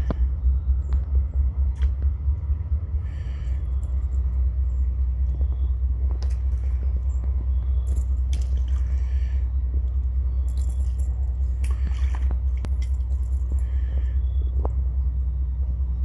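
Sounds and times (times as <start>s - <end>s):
deep rumble: 0.0s - 16.0s.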